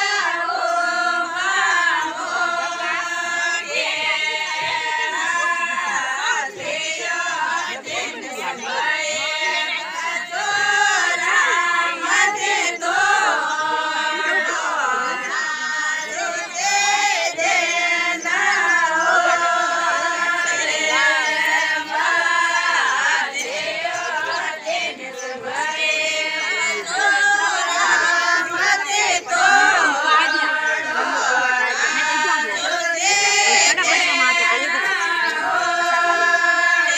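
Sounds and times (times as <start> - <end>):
women singing in unison: 0.0 - 36.9.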